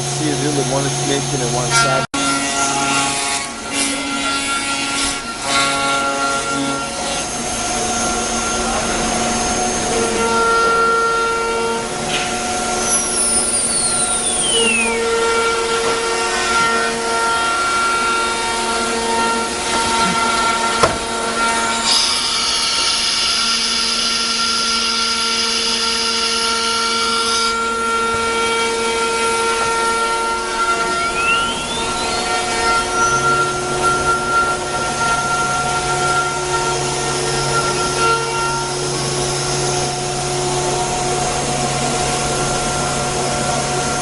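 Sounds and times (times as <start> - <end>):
spindle winding down: 0.0 - 43.7
higher rough whine: 0.0 - 44.0
wood router machines whining: 0.0 - 44.0.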